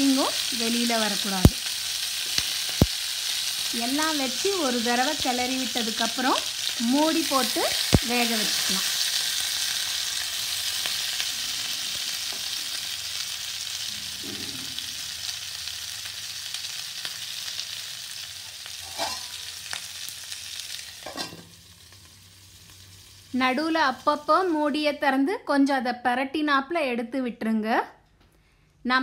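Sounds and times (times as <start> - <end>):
food sizzling in hot oil: 0.0 - 25.1.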